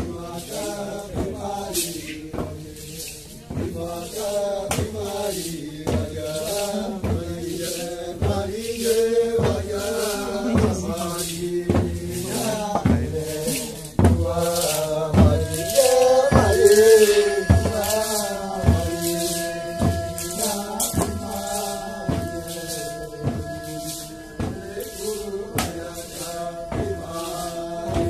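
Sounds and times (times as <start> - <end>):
group chanting in unison: 0.0 - 28.0
percussive dance beat: 3.6 - 28.0.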